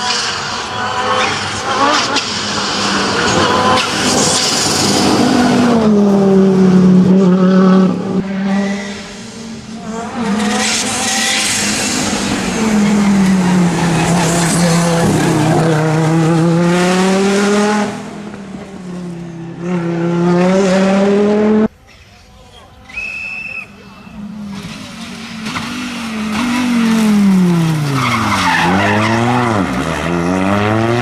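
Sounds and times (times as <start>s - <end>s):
rally car engine revving: 0.0s - 21.7s, 24.1s - 31.0s.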